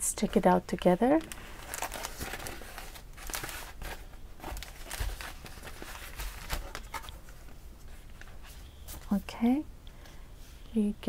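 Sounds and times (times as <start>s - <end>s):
plastic bag and foam wrap crinkling: 0.2s - 9.4s.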